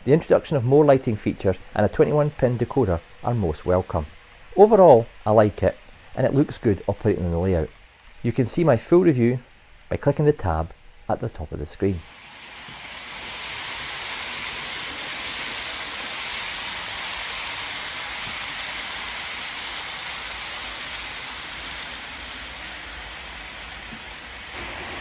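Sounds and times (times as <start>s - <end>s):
model train wheels on rails: 0.0s - 25.0s.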